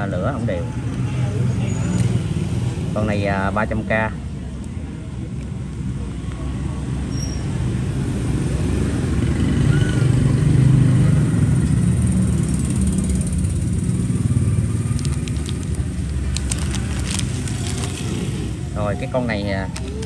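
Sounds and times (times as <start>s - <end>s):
traffic rumble with motorbikes: 0.0s - 20.0s.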